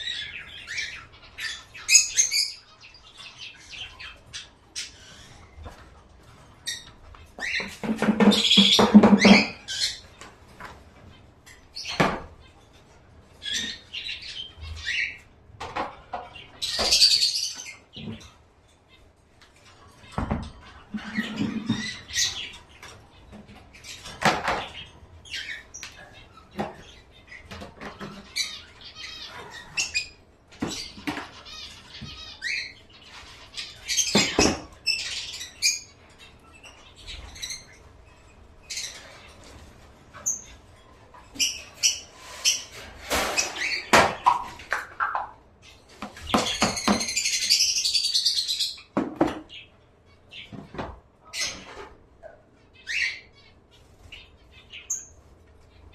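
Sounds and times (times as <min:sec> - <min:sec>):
birds chirping and chattering: 0:00.0 - 0:55.9.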